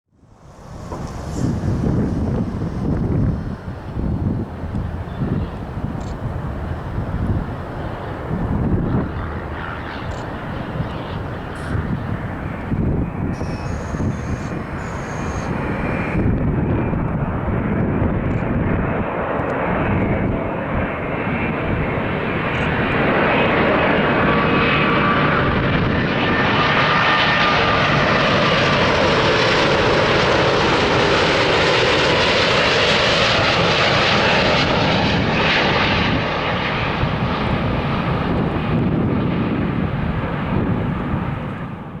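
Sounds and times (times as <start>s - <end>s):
jet airliner roaring past: 0.2s - 42.0s.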